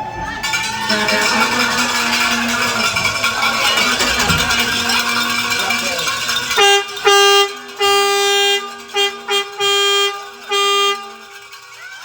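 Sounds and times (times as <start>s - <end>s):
air horn blasts: 0.0s - 11.6s
lower-pitched horn: 0.0s - 11.6s.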